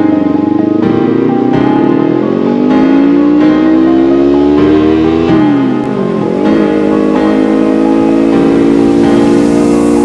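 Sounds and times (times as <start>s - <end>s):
background music: 0.0s - 10.0s
motorcycle engine revving: 0.0s - 10.0s.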